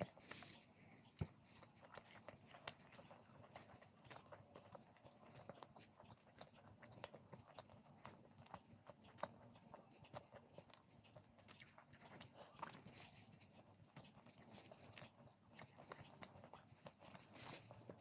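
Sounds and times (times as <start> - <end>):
faint chewing: 0.0 - 18.0.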